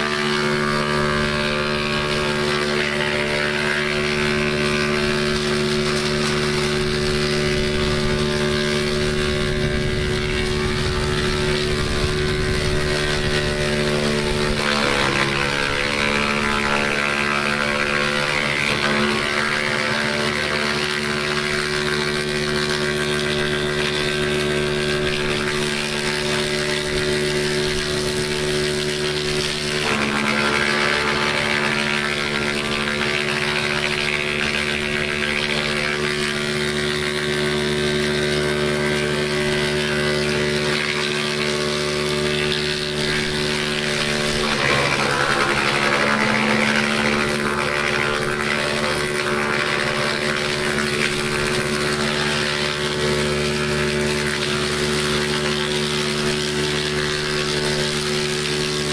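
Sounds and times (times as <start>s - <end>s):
branch grinding: 0.0s - 58.9s
wood chipper humming: 0.0s - 58.9s.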